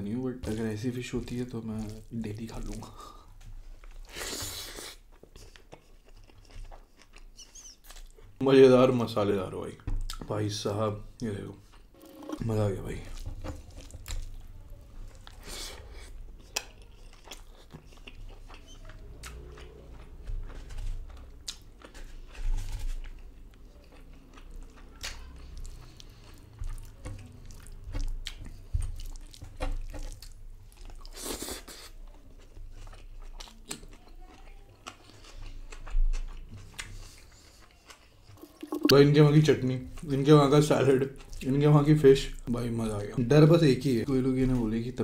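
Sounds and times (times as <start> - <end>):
person chewing food: 0.4 - 8.4, 11.2 - 42.5.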